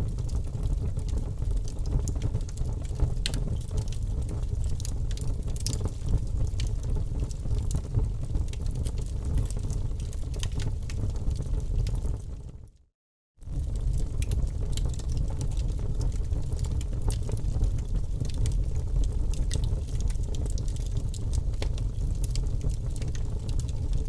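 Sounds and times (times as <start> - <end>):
wood fire crackling: 0.1 - 12.5, 13.4 - 24.0.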